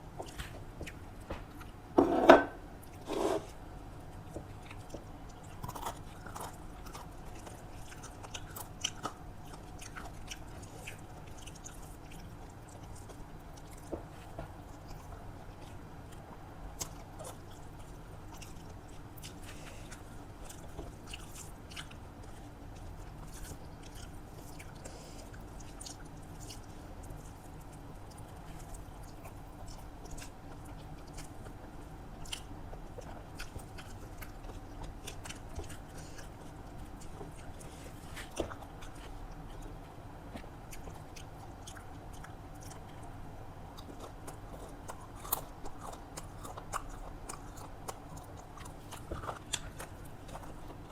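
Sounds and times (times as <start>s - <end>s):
steady low hum: 0.0s - 50.9s
food crunching: 2.8s - 50.9s
chewing and biting: 3.9s - 50.9s.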